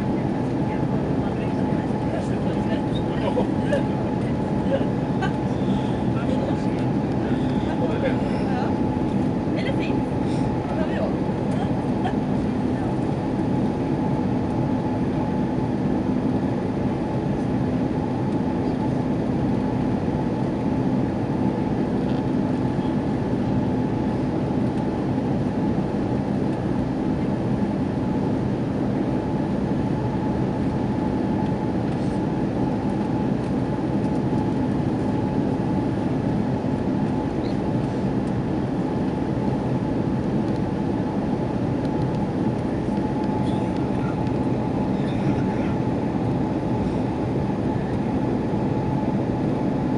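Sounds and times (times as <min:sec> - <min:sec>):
jet engines humming with whine: 0:00.0 - 0:49.9.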